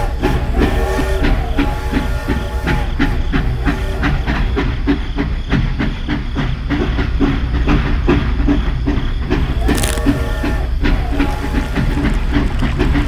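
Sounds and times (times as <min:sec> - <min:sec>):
steam train chuffing with hiss: 0:00.0 - 0:13.0.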